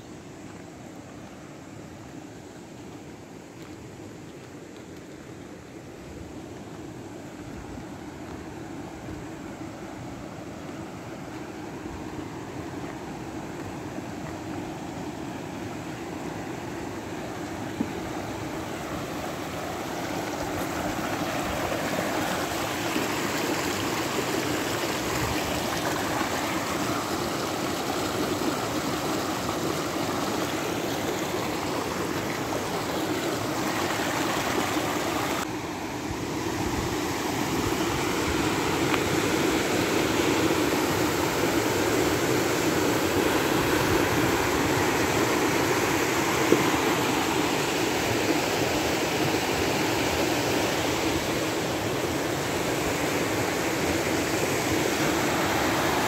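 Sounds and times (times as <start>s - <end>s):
river rushing over gravel: 0.4s - 56.0s.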